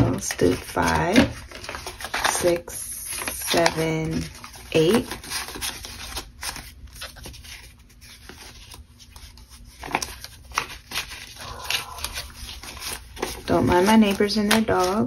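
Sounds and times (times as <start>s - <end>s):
banknotes rustling: 0.0s - 15.0s.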